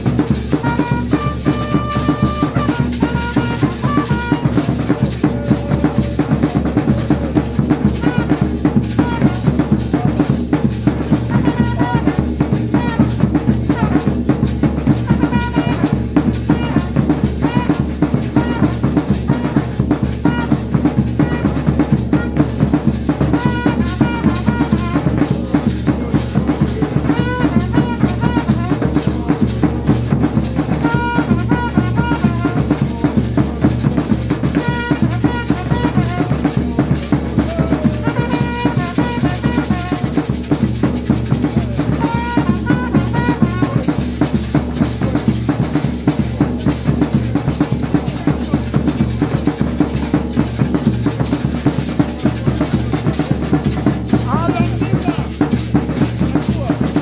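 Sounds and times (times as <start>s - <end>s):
trumpet phrases: 0.0s - 49.6s, 50.6s - 57.0s
drum band drumming: 0.0s - 57.0s.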